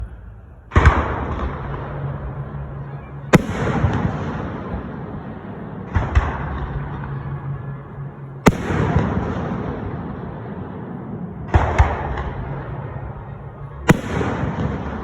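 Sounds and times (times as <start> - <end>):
echoing rumble: 0.0 - 15.0
fireworks bursting with bangs: 0.7 - 15.0.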